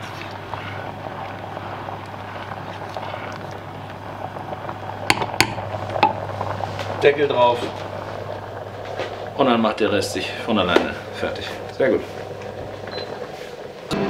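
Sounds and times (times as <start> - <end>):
wooden spoon stirring: 0.0 - 13.9
rice simmering in a pot: 0.0 - 14.0
steady low hum: 0.0 - 14.0.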